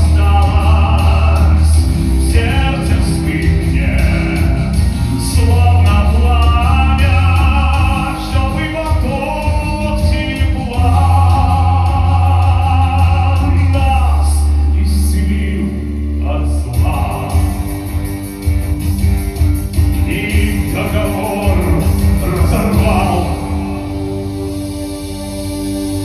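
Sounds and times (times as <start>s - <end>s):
man singing into microphone: 0.0s - 17.7s, 20.0s - 24.3s
instrumental music with heavy bass: 0.0s - 26.0s.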